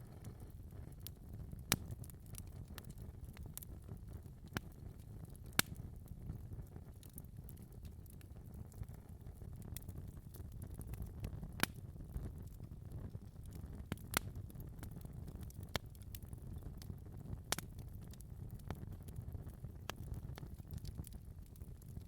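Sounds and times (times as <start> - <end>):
fire popping and snapping: 0.0 - 22.0
low rumble of fire: 0.0 - 22.0.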